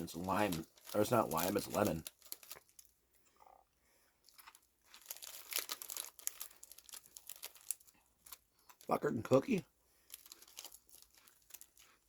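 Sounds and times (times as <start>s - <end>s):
plastic wrapper crinkling: 0.0s - 3.0s, 4.2s - 12.0s.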